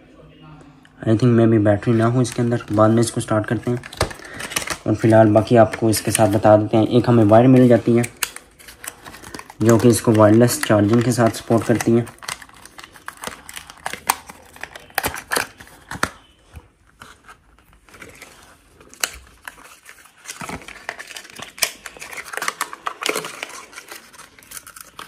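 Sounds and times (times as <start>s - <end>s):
cardboard packaging rustling: 1.7s - 25.0s.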